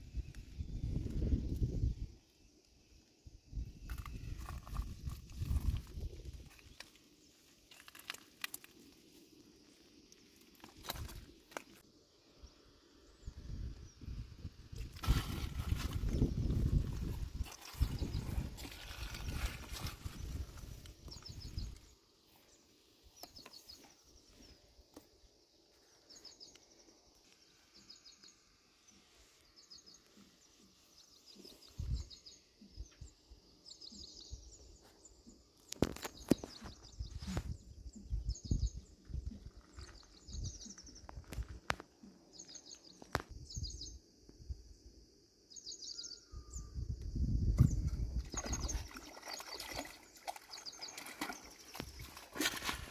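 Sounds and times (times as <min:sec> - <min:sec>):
songbird chirping: 0:00.0 - 0:52.9.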